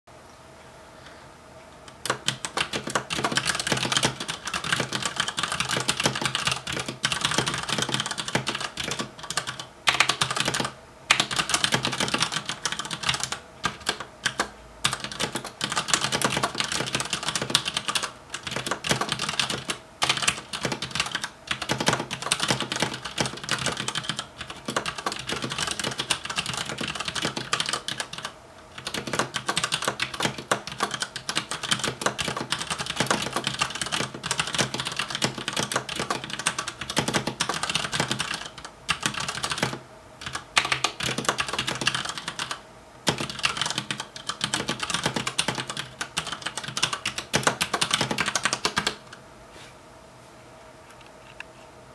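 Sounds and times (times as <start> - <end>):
mechanical keyboard typing: 1.9 - 49.2.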